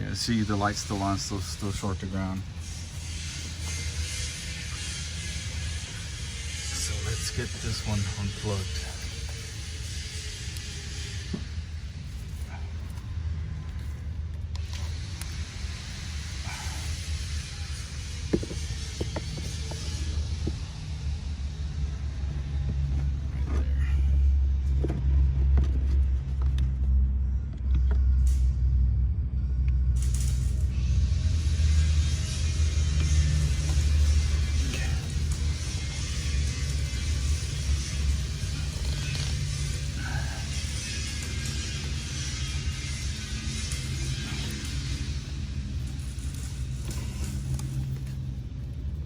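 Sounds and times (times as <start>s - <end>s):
engine rumble and hum: 0.0s - 49.0s.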